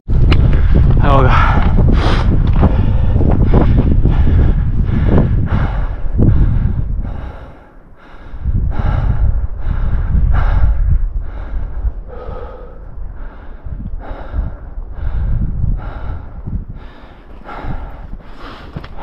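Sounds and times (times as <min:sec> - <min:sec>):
man panting hard: 0:00.6 - 0:19.0.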